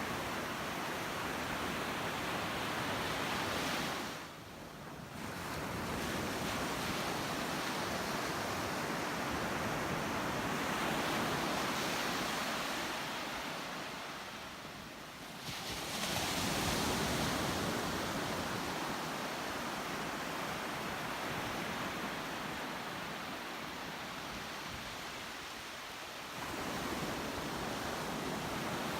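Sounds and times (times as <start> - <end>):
ocean surf breaking on shore: 5.1 - 28.9.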